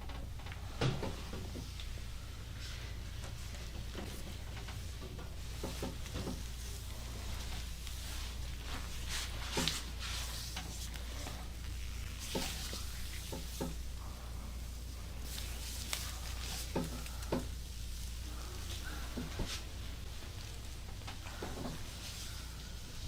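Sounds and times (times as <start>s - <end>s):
steady low hum: 0.0s - 23.0s
hands rubbing skin and clothing: 1.1s - 23.0s.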